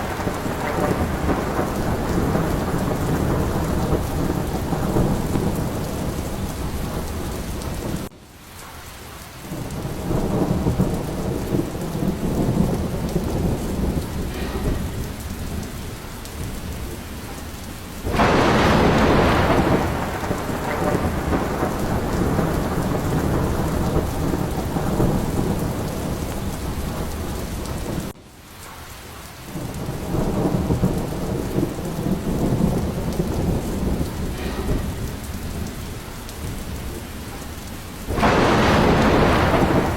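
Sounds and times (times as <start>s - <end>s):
rolling thunder: 0.0s - 8.1s, 9.4s - 28.2s, 29.5s - 39.9s
sharp loud thunderclap: 0.0s - 8.1s, 9.5s - 28.2s, 29.6s - 39.9s
steady rain: 0.0s - 39.9s.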